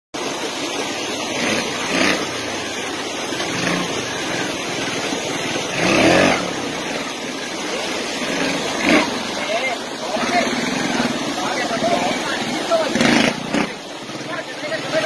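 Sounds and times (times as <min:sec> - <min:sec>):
steady noisy background: 0:00.2 - 0:15.0
motorcycle engines revving: 0:00.3 - 0:15.0.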